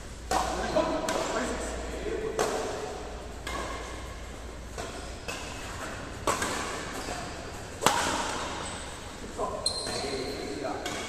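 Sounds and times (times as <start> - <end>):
badminton racket hitting shuttlecock: 0.3 - 9.0, 10.8 - 11.0.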